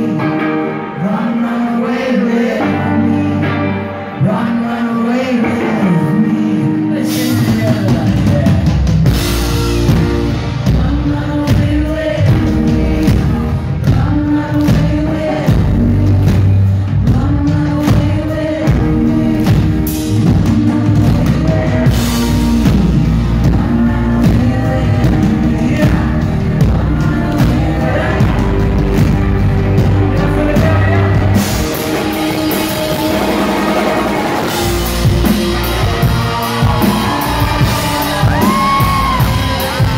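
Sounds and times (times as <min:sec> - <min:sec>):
man singing lead vocal: 0:00.0 - 0:39.9
rock band playing live: 0:00.0 - 0:39.9.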